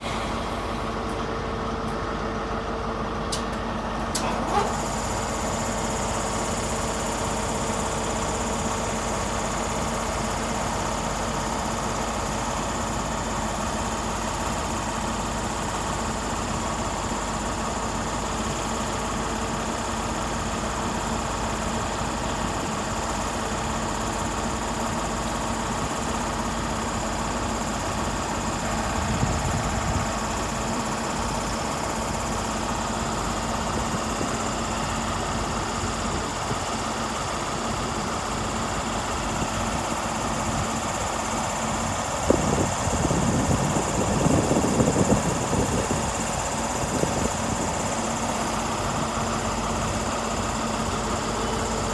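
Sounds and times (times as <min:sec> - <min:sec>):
diesel train engine idling: 0:00.0 - 0:51.9.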